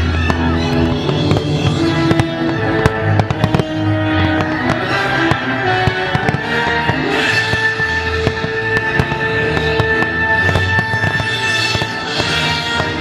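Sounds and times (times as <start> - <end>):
fireworks bursting and crackling: 0.0 - 13.0
music with held notes: 0.0 - 13.0.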